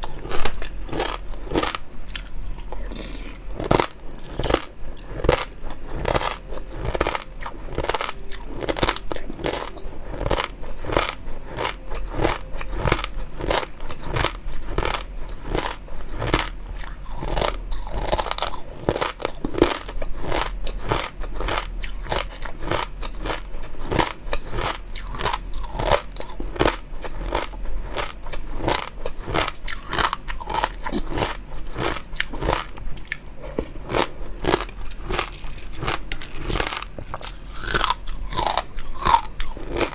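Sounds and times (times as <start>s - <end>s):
chewing and biting: 0.0s - 39.9s
crunching clicks: 3.6s - 39.9s.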